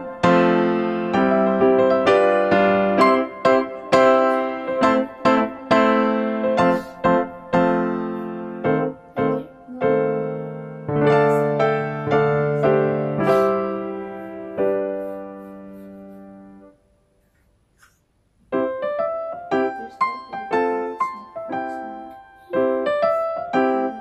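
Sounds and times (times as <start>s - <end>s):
slow piano music: 0.0s - 17.1s, 18.5s - 24.0s.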